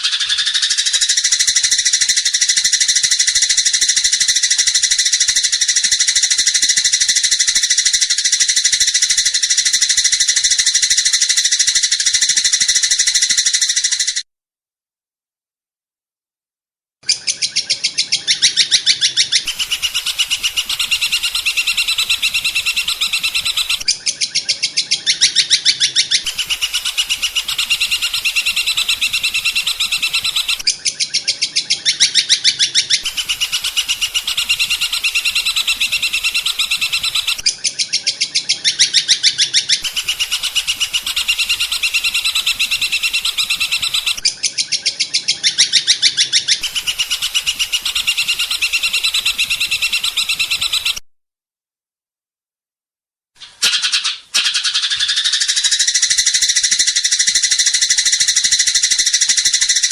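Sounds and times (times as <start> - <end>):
songbird trilling: 0.0 - 14.2, 17.0 - 51.0, 53.4 - 59.9.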